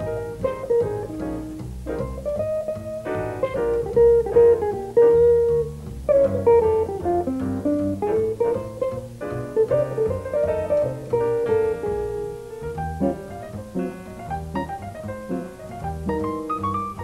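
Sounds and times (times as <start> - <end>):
electric guitar melodic lines: 0.0 - 17.0
piano accompanying: 0.0 - 17.0
upright bass: 0.0 - 17.0.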